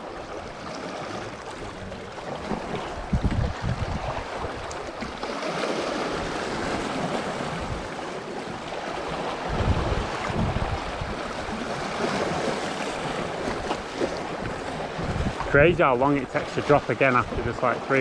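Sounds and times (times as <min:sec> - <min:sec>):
sea washing against rocks: 0:00.0 - 0:18.0
wind buffeting microphone: 0:00.0 - 0:18.0.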